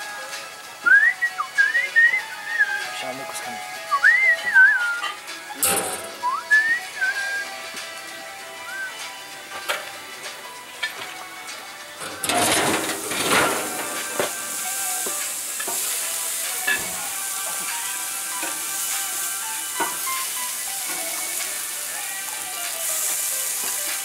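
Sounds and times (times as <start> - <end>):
meat sizzling on a grill: 0.0 - 24.0.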